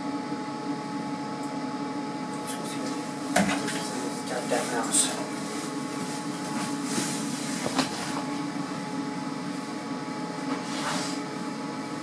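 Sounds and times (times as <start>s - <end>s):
droning hum with tones: 0.0s - 12.0s.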